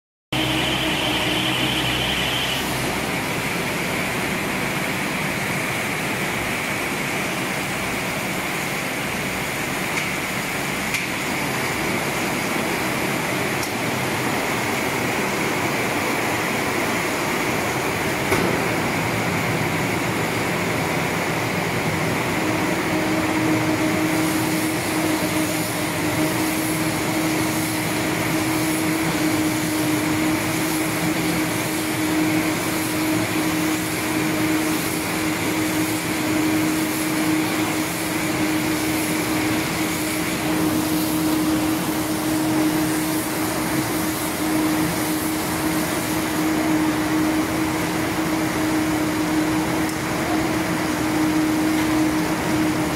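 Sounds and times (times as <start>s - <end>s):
baler machine humming: 0.3s - 52.9s
high machine whine: 0.3s - 52.9s.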